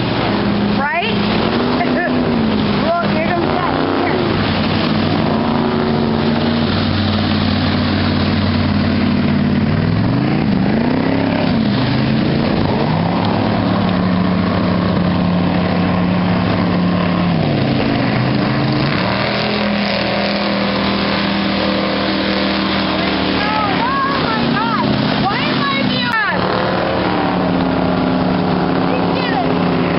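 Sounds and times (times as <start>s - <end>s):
motorboat engine running: 0.0s - 29.9s
wind and water rushing: 0.0s - 29.9s.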